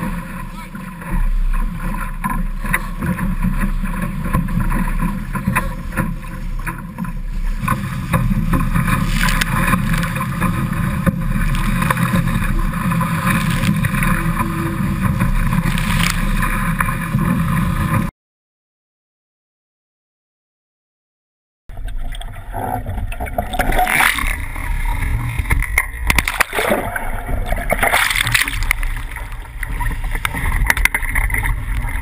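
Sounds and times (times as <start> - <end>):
water rushing along a hull: 0.0 - 18.1, 21.7 - 32.0
wind rumbling on microphone: 0.0 - 18.1, 21.7 - 32.0.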